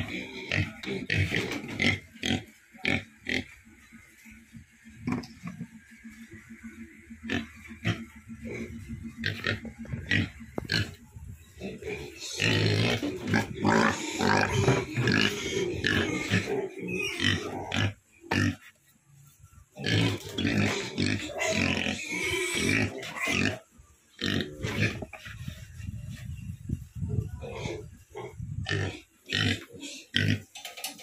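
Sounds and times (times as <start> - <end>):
pigs grunting and squealing: 0.0 - 3.9, 6.4 - 18.7, 19.8 - 25.2, 27.1 - 30.5.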